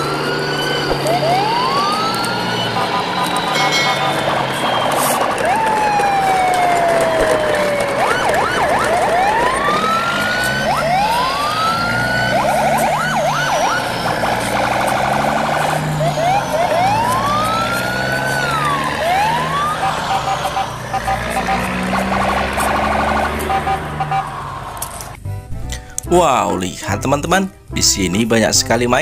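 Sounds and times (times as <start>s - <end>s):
siren wailing and yelping: 0.0s - 25.2s.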